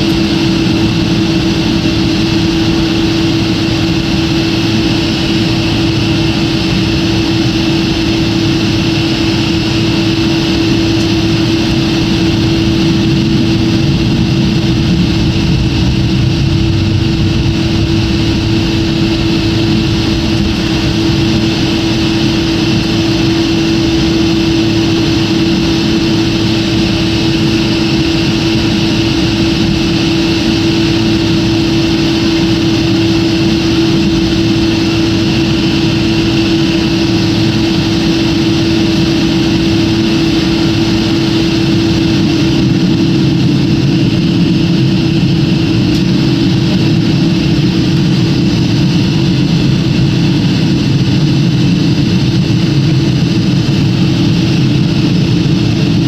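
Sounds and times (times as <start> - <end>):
constant low hum: 0.0 - 56.0
jet engines and airflow rushing: 0.0 - 56.0.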